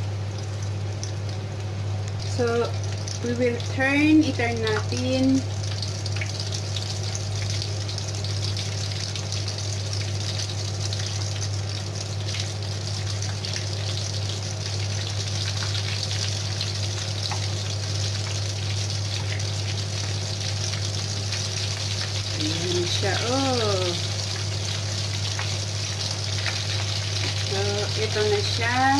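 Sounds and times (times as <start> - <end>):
oil sizzling and bubbling: 0.0 - 28.9.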